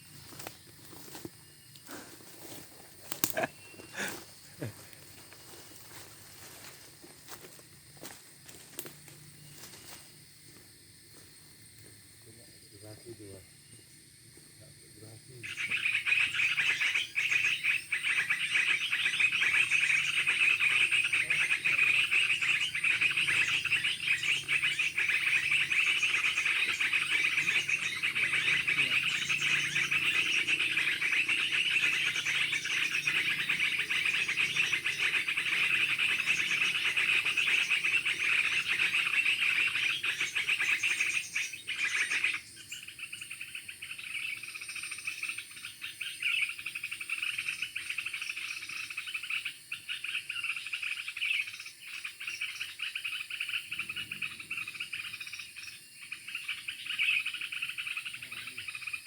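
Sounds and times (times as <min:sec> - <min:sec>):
bird calls: 0:00.0 - 0:10.6, 0:14.6 - 0:59.0
background noise: 0:00.0 - 0:59.0
insects and frogs chorus: 0:00.0 - 0:59.0.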